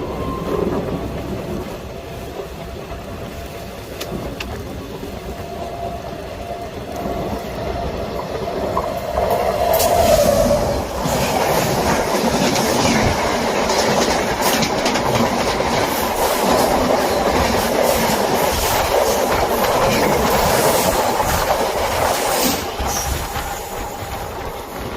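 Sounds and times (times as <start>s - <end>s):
passenger train passing: 0.0s - 24.9s
wheels clattering over rail joints: 0.2s - 24.9s.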